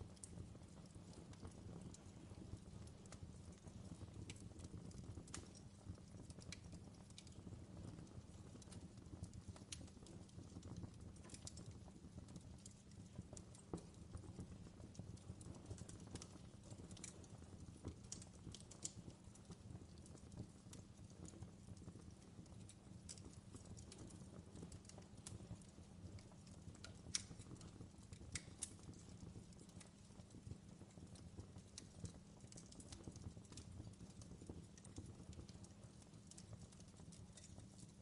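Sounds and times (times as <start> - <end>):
fireplace crackling: 0.0 - 38.0.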